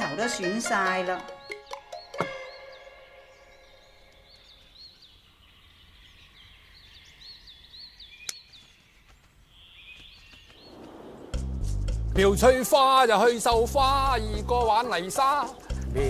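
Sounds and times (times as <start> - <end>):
small birds chirping: 0.6 - 16.0.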